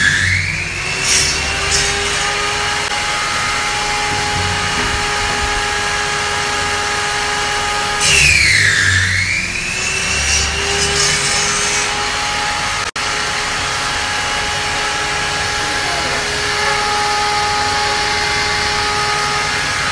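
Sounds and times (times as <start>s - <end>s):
circular saw cutting wood: 0.0s - 19.9s.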